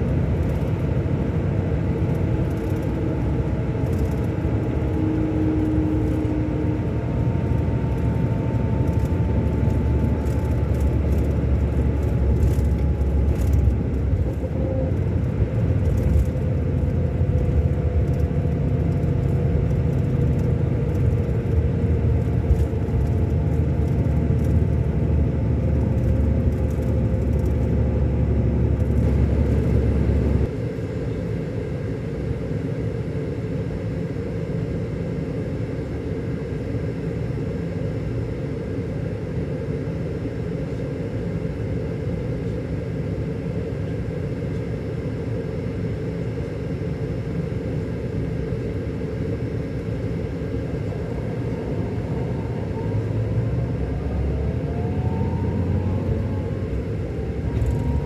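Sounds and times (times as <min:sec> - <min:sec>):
diesel engine rumbling: 0:00.0 - 0:31.0, 0:42.5 - 0:58.0
faint engine whine: 0:00.0 - 0:58.0.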